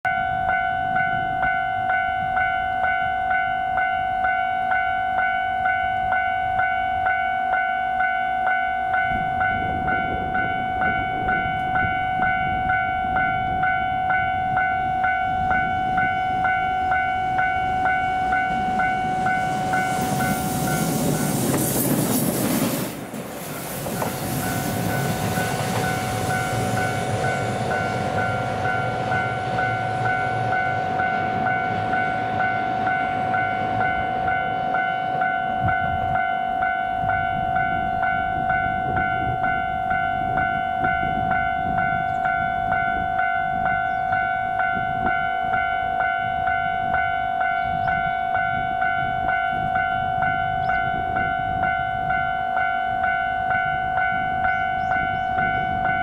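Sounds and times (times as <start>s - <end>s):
train passing: 0.1s - 56.0s.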